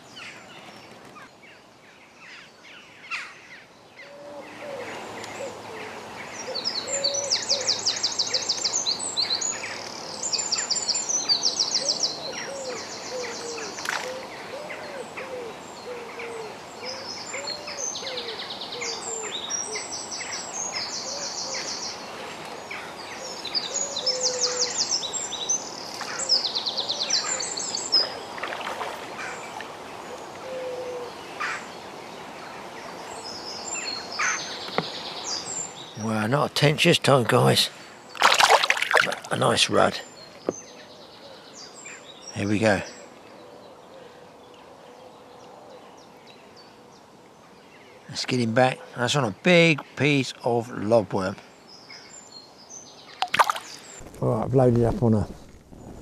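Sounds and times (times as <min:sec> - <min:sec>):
songbirds trilling: 0:00.0 - 0:56.0.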